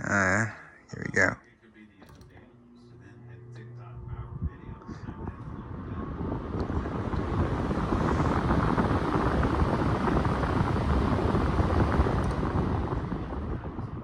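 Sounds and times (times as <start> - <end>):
electric fan whirring: 0.0 - 14.0
air buffeting microphone: 2.0 - 14.0.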